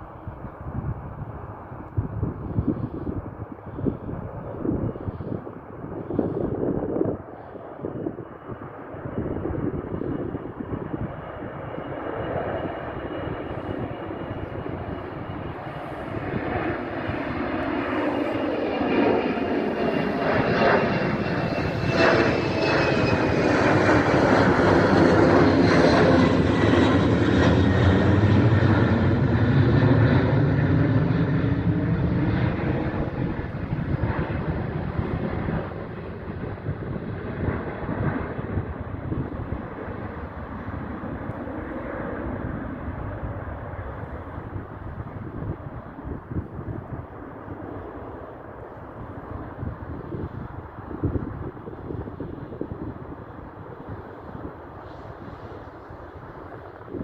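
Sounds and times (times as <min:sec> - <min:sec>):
high jet engine whine: 0:00.0 - 0:57.0
jet engines passing by: 0:00.0 - 0:57.0.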